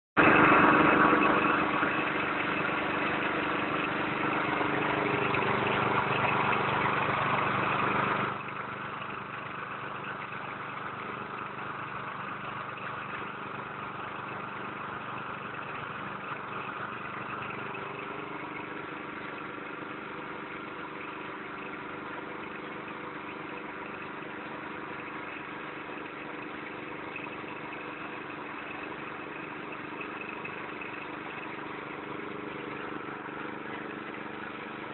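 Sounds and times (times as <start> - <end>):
threshing machine running: 0.2 - 34.9.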